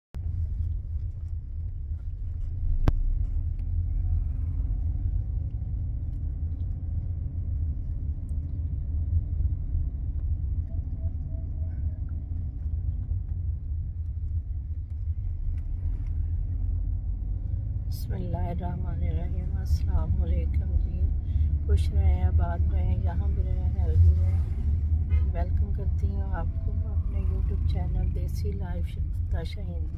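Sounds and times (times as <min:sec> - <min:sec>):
car rumble from inside cabin: 0:00.2 - 0:29.9.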